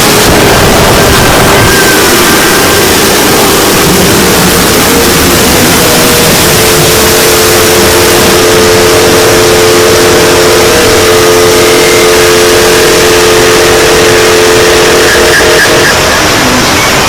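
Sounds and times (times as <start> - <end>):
loud distorted noise: 0.0 - 17.0
steady droning tone: 0.0 - 17.0.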